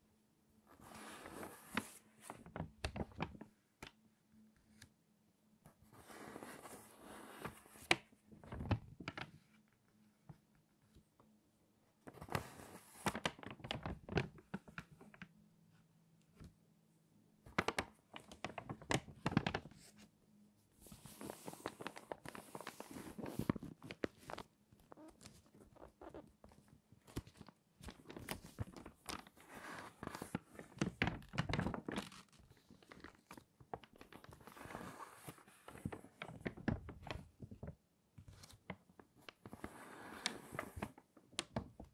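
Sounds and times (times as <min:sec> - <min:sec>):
crinkly pages being turned: 0:00.7 - 0:04.0, 0:05.7 - 0:11.3, 0:12.0 - 0:15.4, 0:17.5 - 0:20.1, 0:20.7 - 0:41.9.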